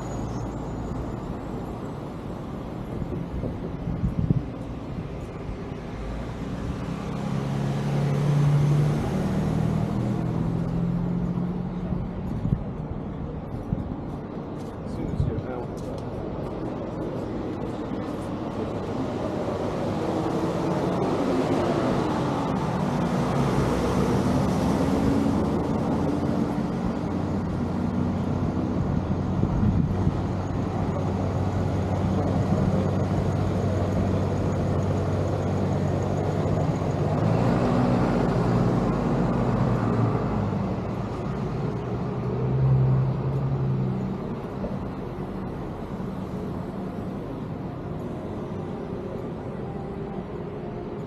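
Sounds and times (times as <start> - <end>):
vehicles driving past: 0.0 - 51.0.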